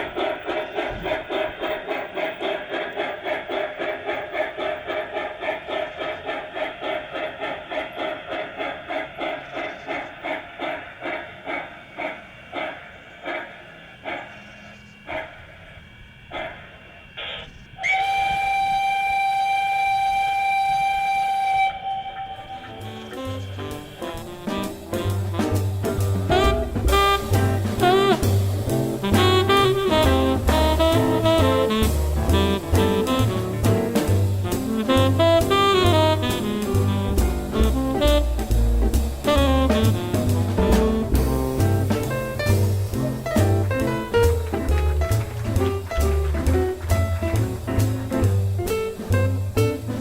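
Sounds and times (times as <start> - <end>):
model steam locomotive chuffing: 0.0 - 50.0
locomotive whistle: 9.2 - 50.0.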